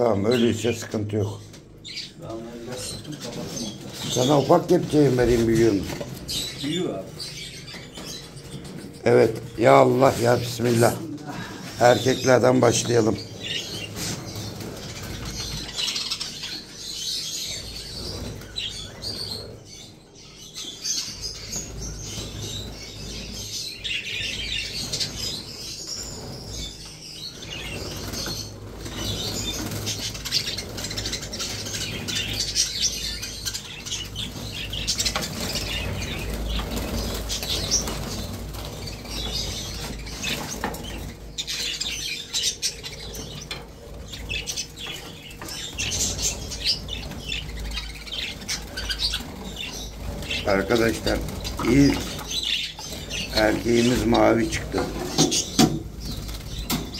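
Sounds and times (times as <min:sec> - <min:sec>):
birds chirping: 0:00.0 - 0:56.9
birds wings fluttering: 0:01.9 - 0:56.9.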